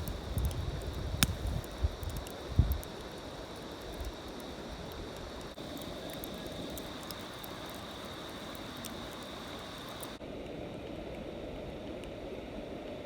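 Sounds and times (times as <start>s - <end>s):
campfire crackles and pops: 0.0s - 11.2s
steady background hiss: 0.0s - 13.0s.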